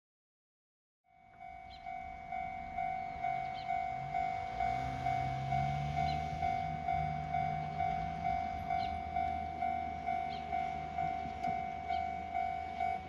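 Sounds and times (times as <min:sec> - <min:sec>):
level-crossing warning bell: 0:01.1 - 0:13.0
low drone: 0:01.4 - 0:13.0.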